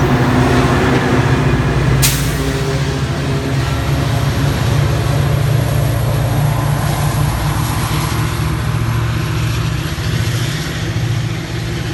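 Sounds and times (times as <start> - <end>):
train rumbling by: 0.0 - 11.9.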